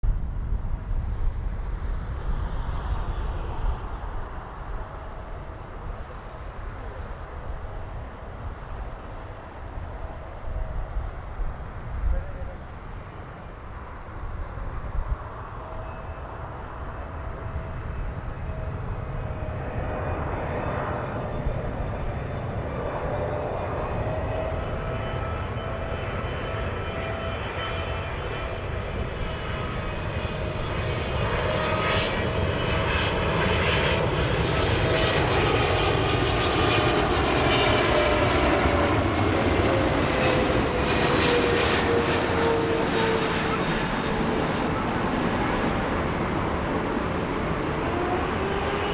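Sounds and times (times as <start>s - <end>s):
jet engines rumbling and whining: 0.1s - 48.9s.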